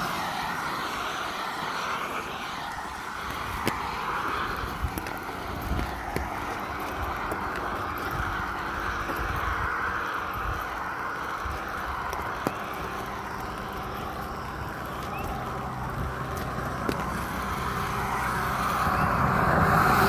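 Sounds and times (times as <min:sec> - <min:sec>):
car on wet road: 0:00.0 - 0:20.0
rain on wet pavement: 0:00.0 - 0:20.0
wind rumble on microphone: 0:00.0 - 0:20.0.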